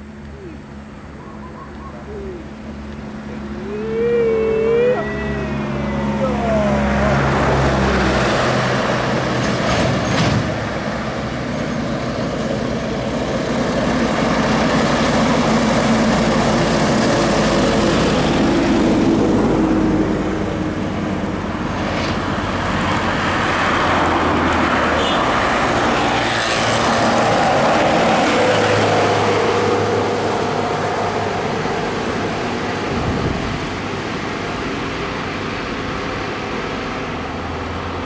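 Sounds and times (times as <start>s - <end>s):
trucks and coach driving past: 0.0s - 38.0s.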